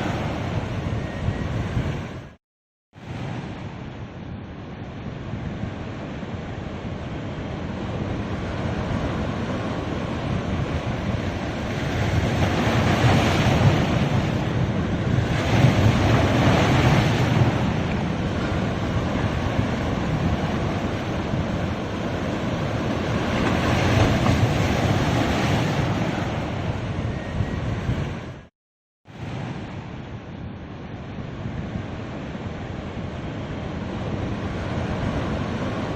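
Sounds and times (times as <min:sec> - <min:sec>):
ocean waves breaking on beach: 0:00.0 - 0:02.4, 0:03.0 - 0:28.5, 0:29.1 - 0:35.9
wind noise on microphone: 0:00.0 - 0:02.4, 0:03.0 - 0:28.5, 0:29.1 - 0:35.9.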